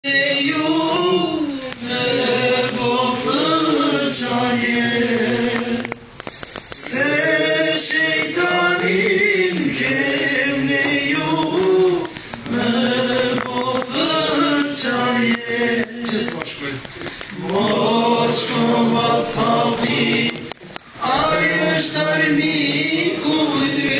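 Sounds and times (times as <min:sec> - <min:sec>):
group of voices singing: 0:00.0 - 0:23.9.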